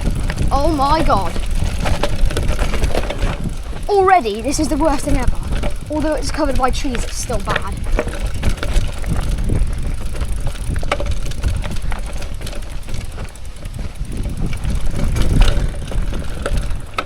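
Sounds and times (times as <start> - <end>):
bike knocking on roots and rocks: 0.0 - 17.0
bike tyres rumbling and rattling: 0.0 - 17.0.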